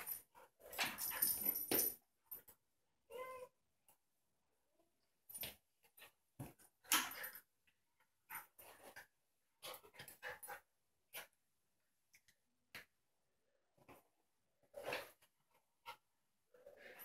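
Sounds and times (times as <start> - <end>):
dog and cat play-fighting: 0.0 - 4.1, 4.9 - 12.9, 13.7 - 17.0.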